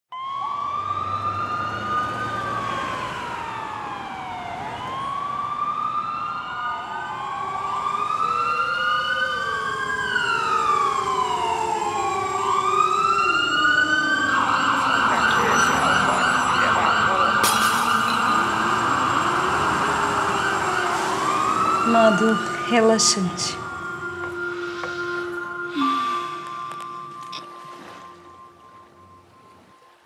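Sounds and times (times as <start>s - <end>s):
sirens wailing: 0.1s - 30.0s
steady background noise: 2.9s - 30.0s.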